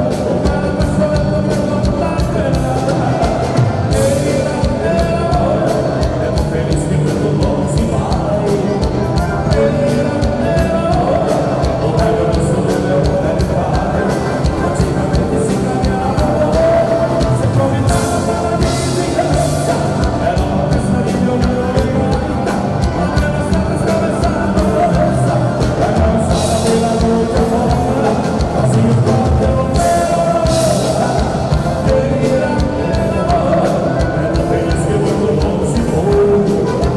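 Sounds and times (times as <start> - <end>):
accordions playing: 0.0 - 36.9
drums: 0.0 - 36.9
electric guitar: 0.0 - 36.9
man singing: 0.0 - 36.9.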